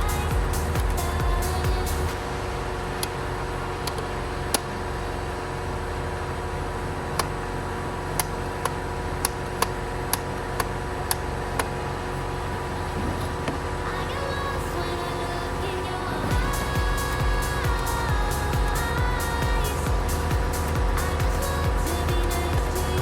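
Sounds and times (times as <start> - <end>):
pulsing low buzz: 0.0 - 23.0.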